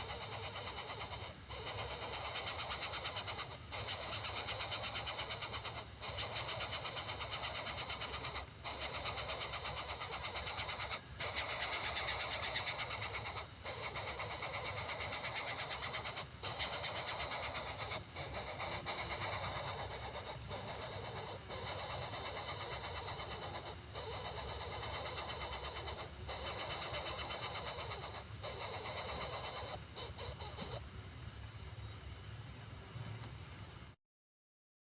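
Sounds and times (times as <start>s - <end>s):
pulsing insect buzz: 0.0s - 31.2s.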